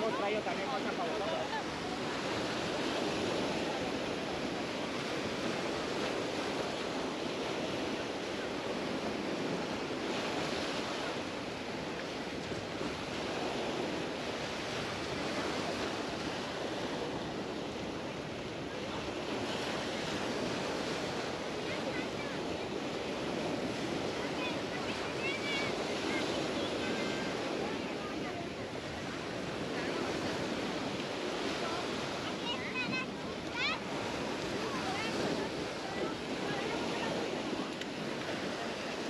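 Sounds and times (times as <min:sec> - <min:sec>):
small waves washing onto sand: 0:00.0 - 0:39.0.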